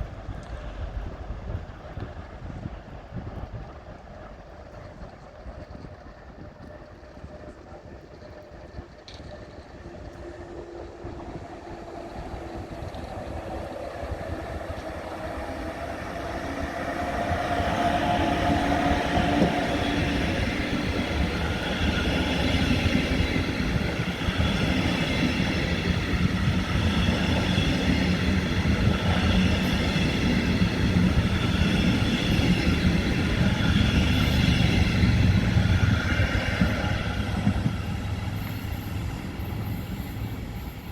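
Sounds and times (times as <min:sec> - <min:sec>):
train rumbling with high whine: 0:00.0 - 0:40.9.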